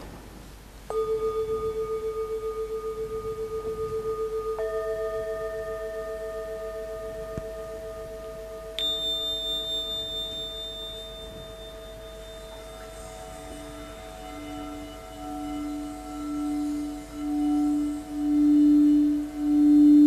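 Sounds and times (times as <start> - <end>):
crystal singing bowl singing: 0.9 - 20.0
high bell-like strike: 0.9 - 20.0
metal singing bowl ringing: 0.9 - 20.0.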